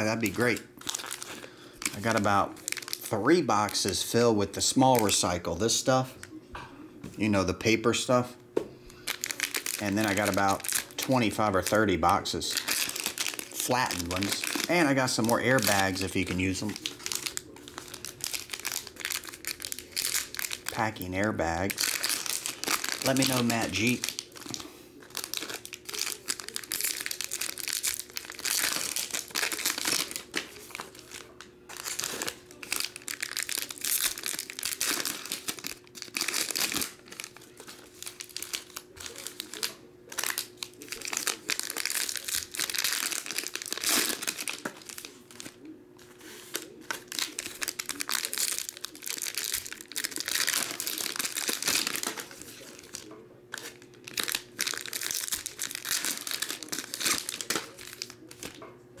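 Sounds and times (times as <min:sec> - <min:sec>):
foil wrappers crinkling: 0:00.0 - 0:05.6, 0:08.9 - 0:58.6.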